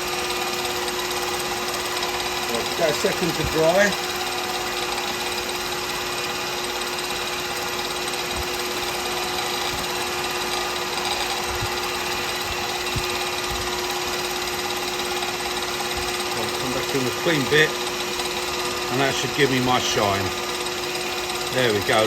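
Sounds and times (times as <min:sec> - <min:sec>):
wood lathe motor humming: 0:00.0 - 0:22.0.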